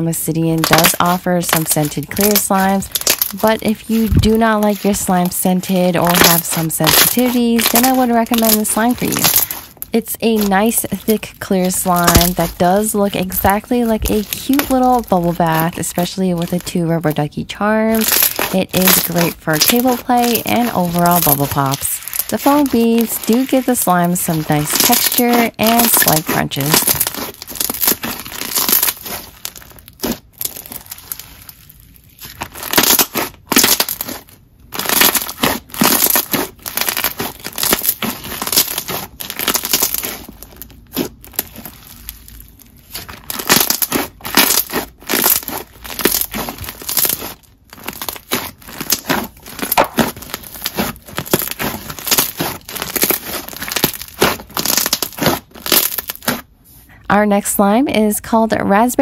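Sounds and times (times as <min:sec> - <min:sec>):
foam beads crunching: 0:00.0 - 0:56.5
slime squishing with bubble pops: 0:00.0 - 0:56.5.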